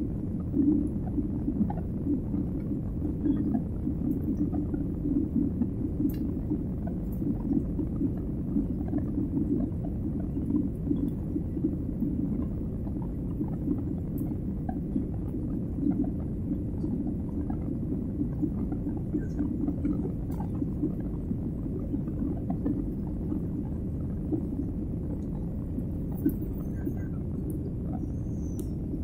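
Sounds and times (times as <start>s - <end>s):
faint ticks: 0.1s - 17.7s, 18.3s - 21.2s, 21.8s - 28.8s.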